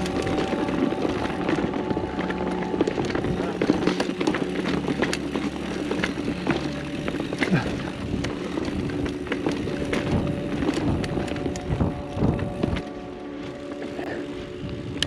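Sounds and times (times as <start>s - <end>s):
bike rattling and knocking: 0.0s - 15.0s
steady buzz: 0.0s - 15.0s
tyres rolling on dirt: 0.0s - 15.0s.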